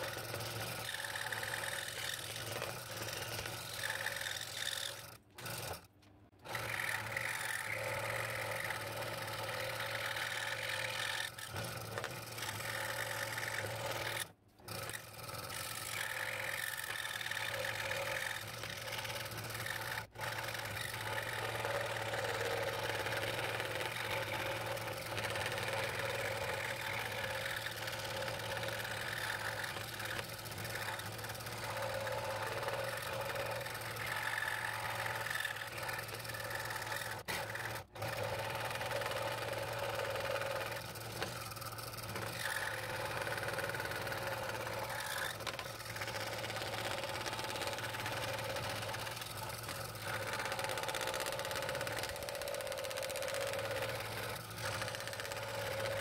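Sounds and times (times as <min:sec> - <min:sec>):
scroll saw cutting wood: 0:00.0 - 0:56.0.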